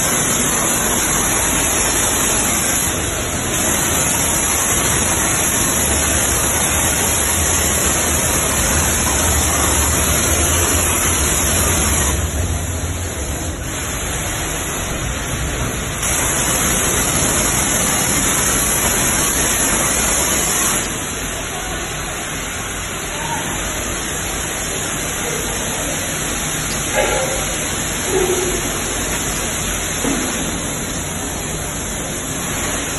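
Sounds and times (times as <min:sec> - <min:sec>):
water jet hissing: 0:00.0 - 0:32.9.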